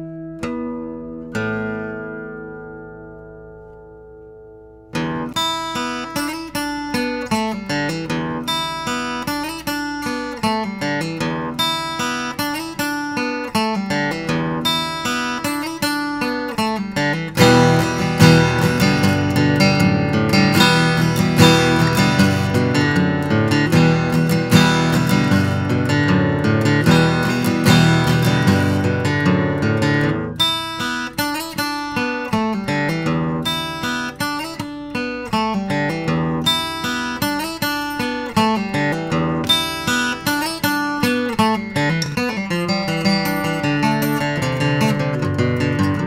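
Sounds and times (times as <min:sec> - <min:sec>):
acoustic guitar playing: 0:00.0 - 0:46.0.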